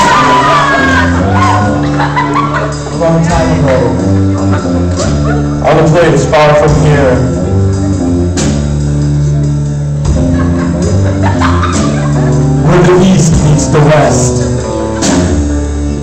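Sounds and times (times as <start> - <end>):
live rock band: 0.0 - 16.0.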